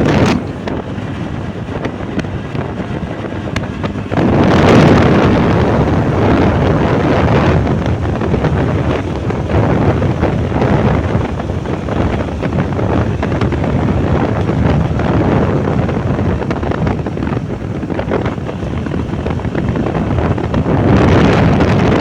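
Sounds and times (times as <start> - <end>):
motorbike engine: 0.0 - 22.0
road noise: 0.0 - 22.0
wind buffeting microphone: 0.0 - 22.0.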